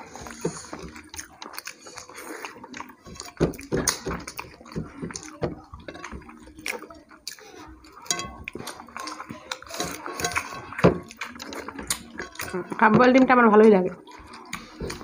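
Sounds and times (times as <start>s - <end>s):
wet chewing and lip smacks: 0.0s - 5.4s, 6.0s - 12.8s, 13.6s - 15.0s.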